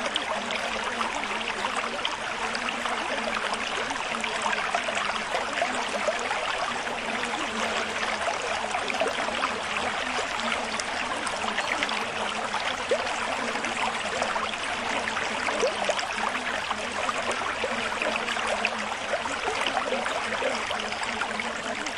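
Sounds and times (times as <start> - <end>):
water trickling and bubbling: 0.0 - 21.9.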